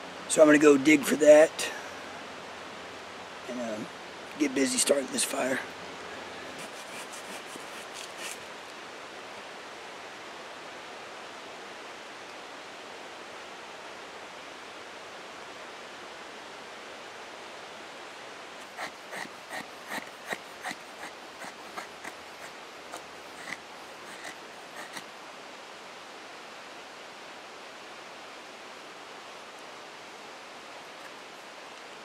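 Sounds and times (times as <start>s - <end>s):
creek rushing: 0.0s - 32.0s.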